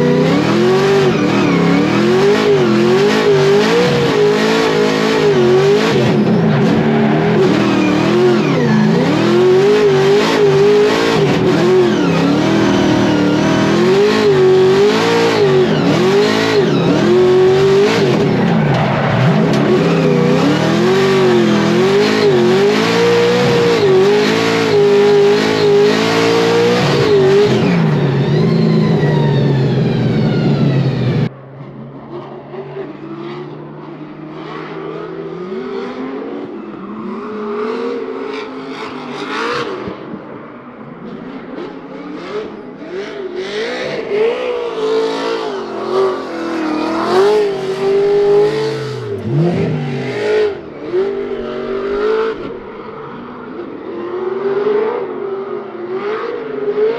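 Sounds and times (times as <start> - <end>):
car engine revving hard: 0.0 - 31.3, 41.1 - 56.9.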